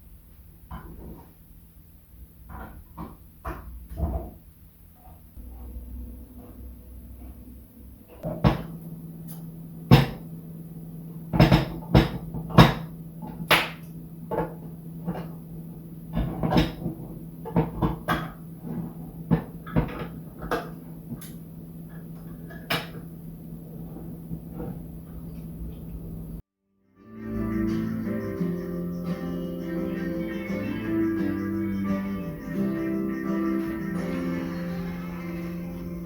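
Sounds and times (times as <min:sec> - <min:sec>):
steady low hum: 0:03.2 - 0:26.4, 0:27.1 - 0:36.0.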